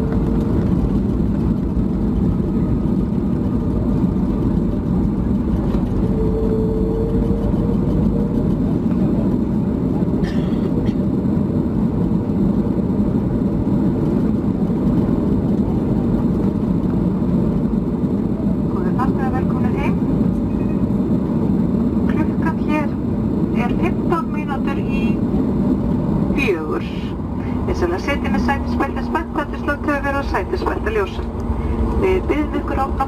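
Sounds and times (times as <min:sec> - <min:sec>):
airplane cabin rumble: 0:00.0 - 0:33.0
faint hum: 0:00.0 - 0:33.0.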